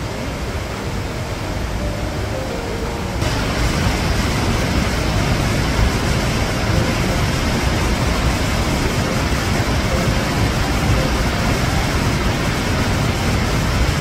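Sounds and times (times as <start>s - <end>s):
stream water flowing over rocks: 0.0s - 14.0s.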